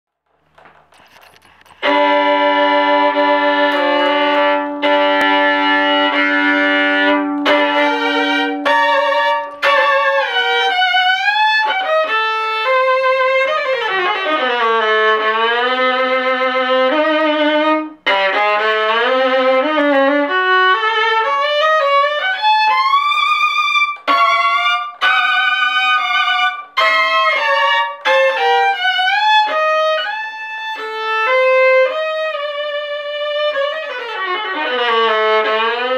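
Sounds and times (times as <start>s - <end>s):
solo violin: 0.5s - 35.9s.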